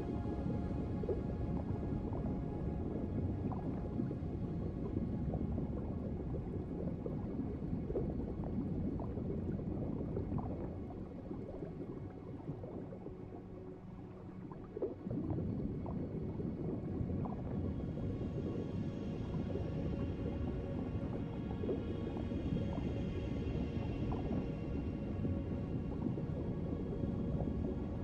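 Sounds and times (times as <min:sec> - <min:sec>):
underwater bubbling and gurgling: 0:00.0 - 0:28.0.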